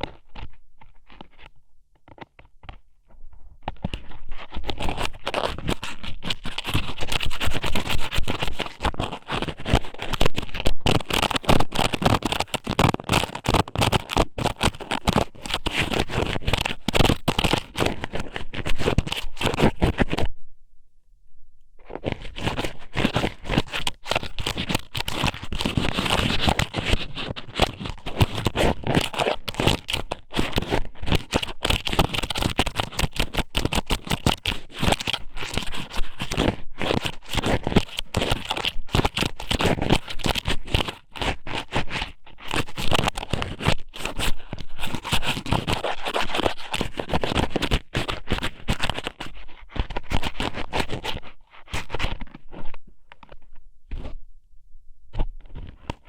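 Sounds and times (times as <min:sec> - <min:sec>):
crackling and scratching on microphone: 0:00.0 - 0:20.6, 0:21.7 - 0:56.0.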